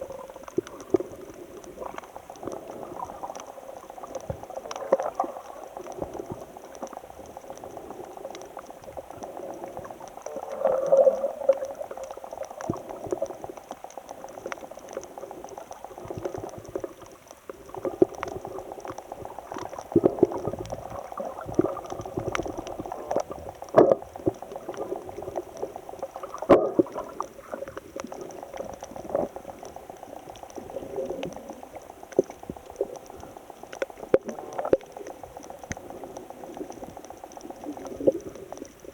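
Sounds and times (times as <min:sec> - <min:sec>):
water bubbling and gurgling: 0:00.0 - 0:38.9.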